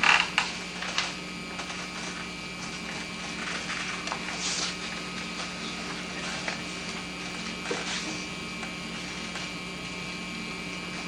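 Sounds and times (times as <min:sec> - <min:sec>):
electrical hum and tape hiss: 0:00.0 - 0:11.0.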